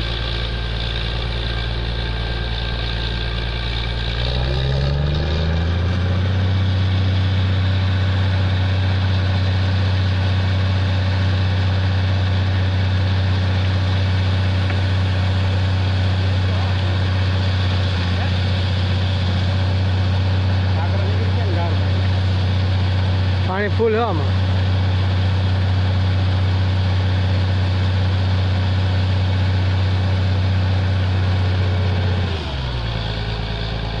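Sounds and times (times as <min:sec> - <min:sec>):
drilling rig engine drone: 0:00.0 - 0:34.0.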